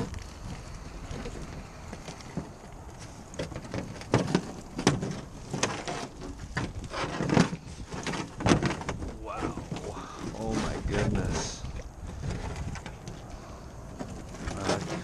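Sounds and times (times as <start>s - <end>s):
knocks and rattles against hull: 0.0s - 13.3s
fishing net rustling: 0.0s - 15.0s.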